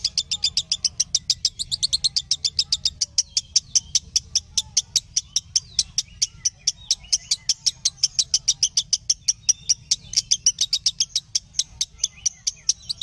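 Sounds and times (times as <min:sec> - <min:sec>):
lovebird chirping: 0:00.0 - 0:13.0.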